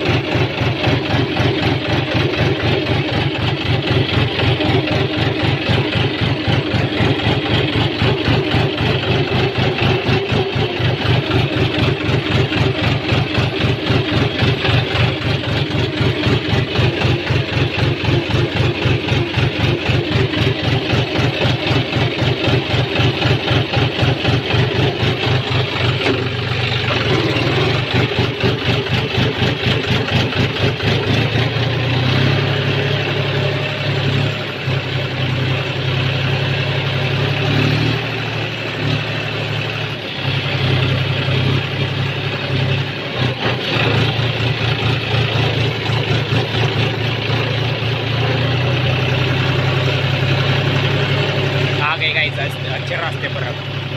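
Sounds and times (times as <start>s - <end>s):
tractor diesel engine: 0.0s - 53.9s.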